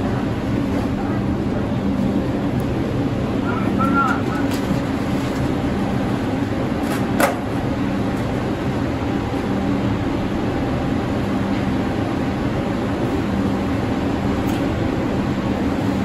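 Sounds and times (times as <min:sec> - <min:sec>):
subway car rumble and hum: 0:00.0 - 0:16.0.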